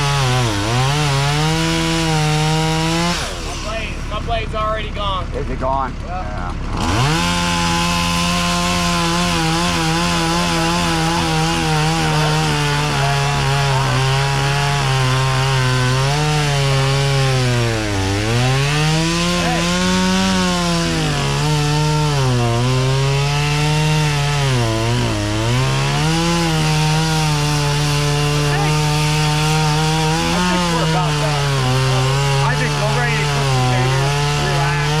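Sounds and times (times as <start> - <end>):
chainsaw running at high revs: 0.0 - 35.0.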